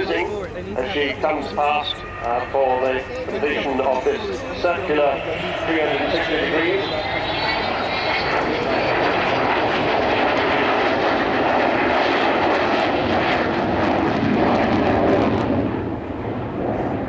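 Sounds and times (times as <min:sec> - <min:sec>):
jet engines roaring in flyby: 0:00.0 - 0:17.0.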